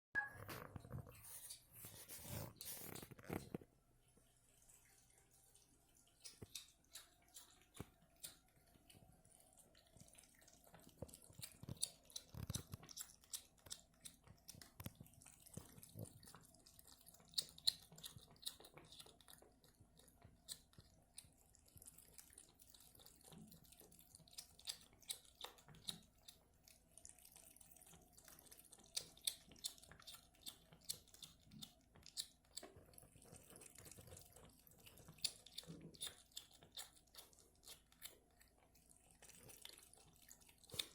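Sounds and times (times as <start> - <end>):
cat lapping water: 0.8 - 40.9.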